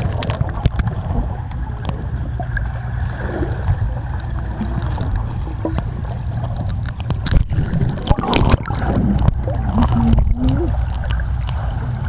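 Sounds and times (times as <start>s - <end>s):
underwater bubbles and clicks: 0.0s - 12.0s
underwater churning rumble: 0.0s - 12.0s.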